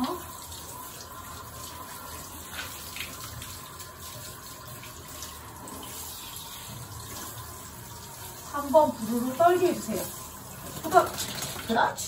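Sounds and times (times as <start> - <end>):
shower head spraying water: 0.0 - 12.0.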